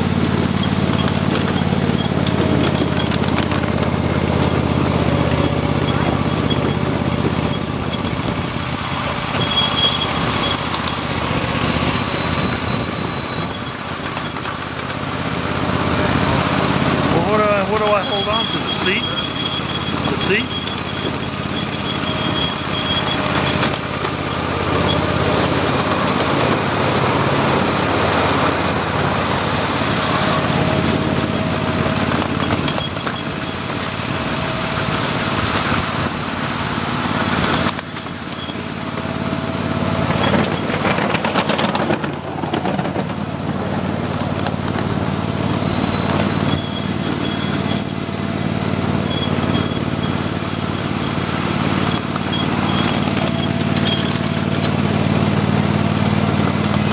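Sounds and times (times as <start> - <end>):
train motor hum: 0.0 - 56.9
wheels rattling on rails: 0.0 - 56.9.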